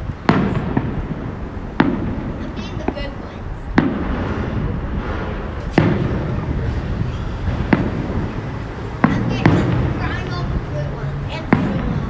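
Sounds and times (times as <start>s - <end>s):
fireworks bursting with bangs: 0.0s - 12.0s
low rumble after bangs: 0.0s - 12.0s.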